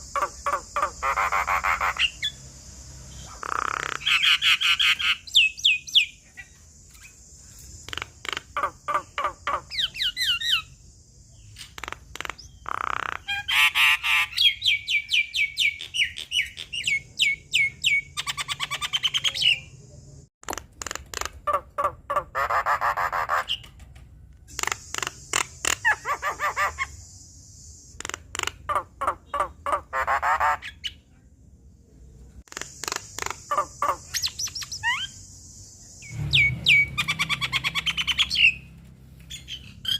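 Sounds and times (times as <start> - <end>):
bird singing varied song: 0.0 - 20.3, 24.4 - 39.9.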